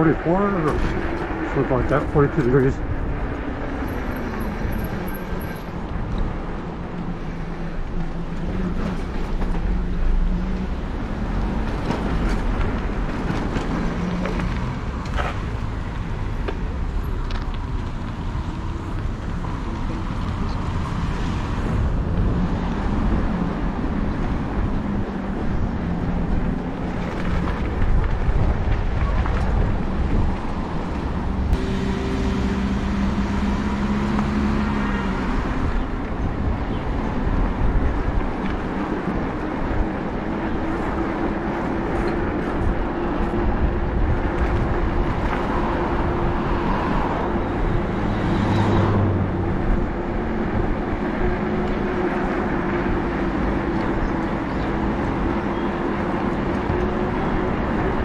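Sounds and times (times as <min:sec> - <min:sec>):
road noise: 0:00.0 - 0:58.0
wind noise: 0:00.0 - 0:58.0.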